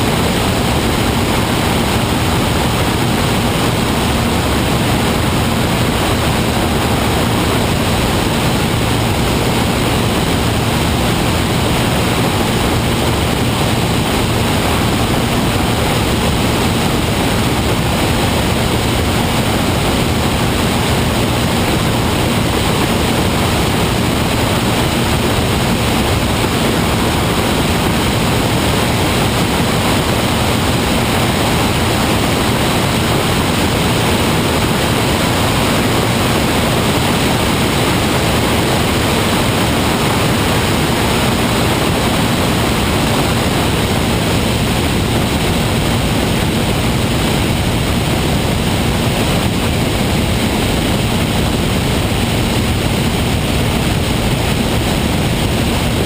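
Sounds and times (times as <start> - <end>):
propeller engine drone: 0.0 - 56.0.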